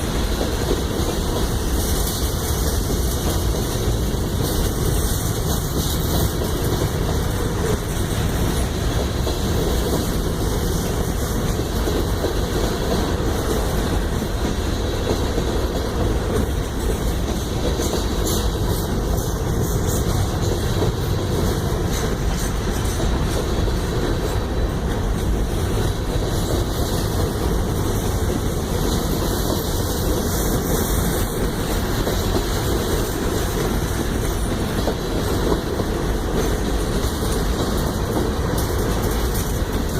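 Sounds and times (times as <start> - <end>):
train rumbling on rails: 0.0 - 39.9
train wheel clatter: 0.0 - 39.9.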